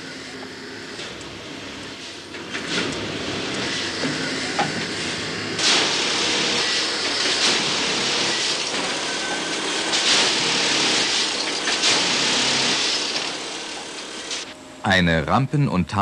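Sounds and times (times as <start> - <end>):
machine engine running: 0.0 - 15.0.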